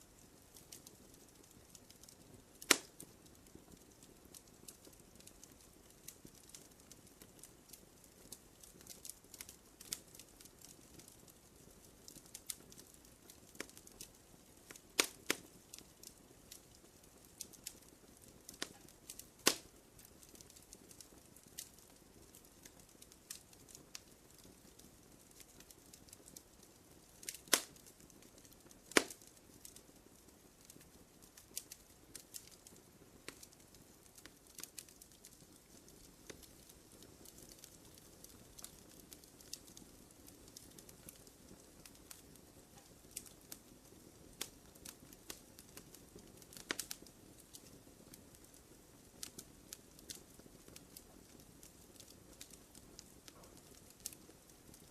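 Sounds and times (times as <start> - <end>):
campfire crackling: 0.0 - 54.9
loud fire snaps: 0.0 - 54.9.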